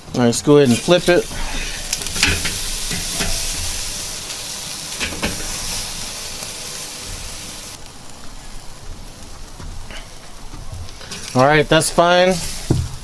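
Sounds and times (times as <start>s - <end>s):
fat dripping onto coals: 0.0s - 13.0s
meat sizzling over charcoal: 0.0s - 13.0s.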